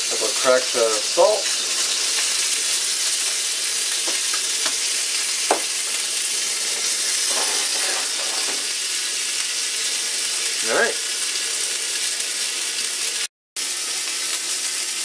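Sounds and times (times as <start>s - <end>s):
steak sizzling in a skillet: 0.0s - 15.0s.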